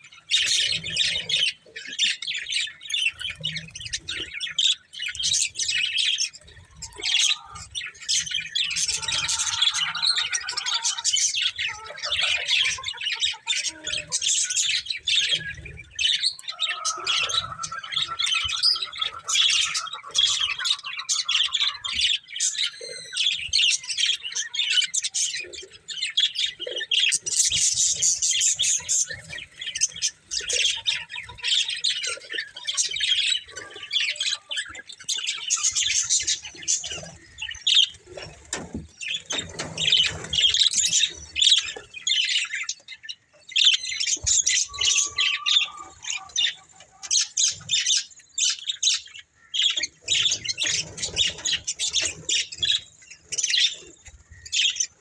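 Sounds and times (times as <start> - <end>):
budgerigars chirping: 0.1 - 55.0.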